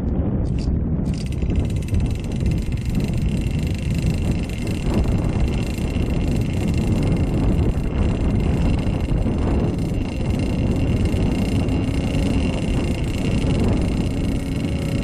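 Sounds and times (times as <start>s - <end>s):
wind buffeting microphone: 0.0s - 15.0s
small two-stroke engine running: 1.0s - 15.0s.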